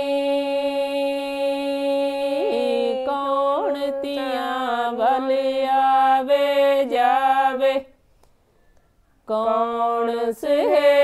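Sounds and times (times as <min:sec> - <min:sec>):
women singing folk song: 0:00.0 - 0:08.0, 0:09.2 - 0:11.0.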